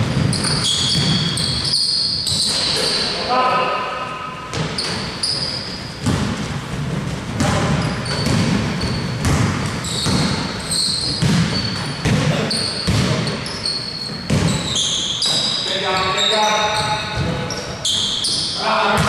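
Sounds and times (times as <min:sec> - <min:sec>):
basketball bouncing on court: 0:00.0 - 0:02.8, 0:04.4 - 0:15.6, 0:16.6 - 0:19.0
shoes squeaking on floor: 0:00.0 - 0:19.0.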